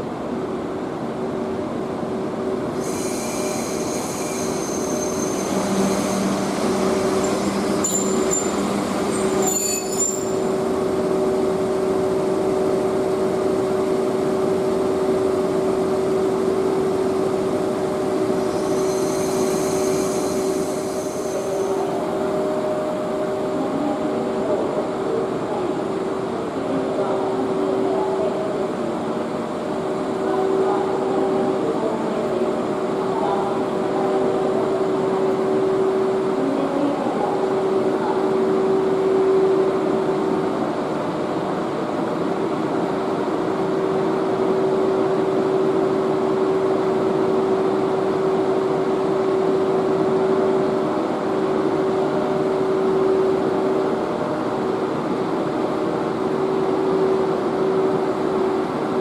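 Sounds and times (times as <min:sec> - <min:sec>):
electric locomotive humming: 0:00.0 - 0:59.0.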